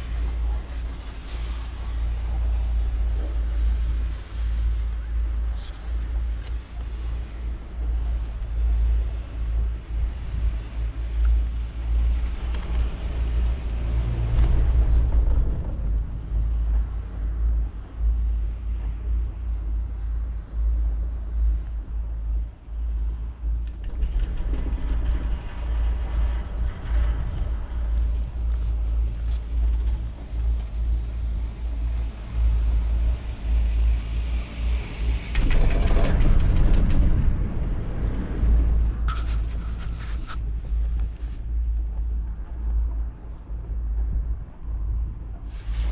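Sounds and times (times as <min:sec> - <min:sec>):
chairlift rattling rumble: 0:00.0 - 0:45.9
wind buffeting microphone: 0:00.0 - 0:45.9.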